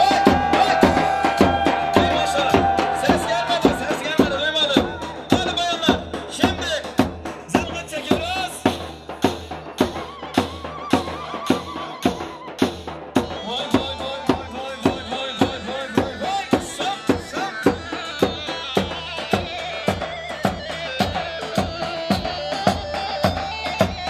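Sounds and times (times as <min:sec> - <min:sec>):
drum beating steady rhythm: 0:00.0 - 0:24.0.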